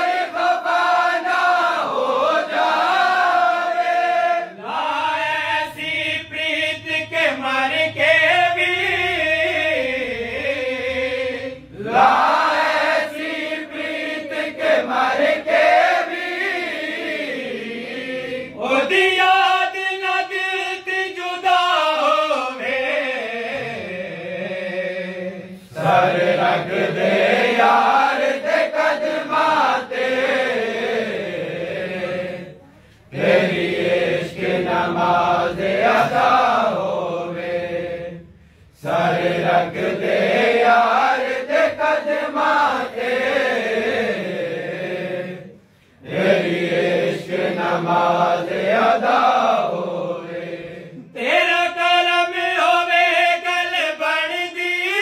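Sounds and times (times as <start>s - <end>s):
men chanting together: 0.0s - 55.0s.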